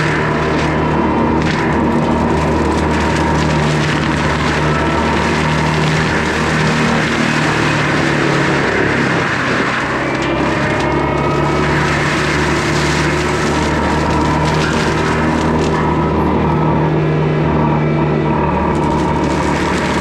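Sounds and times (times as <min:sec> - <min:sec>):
diesel engine at high throttle: 0:00.0 - 0:20.0.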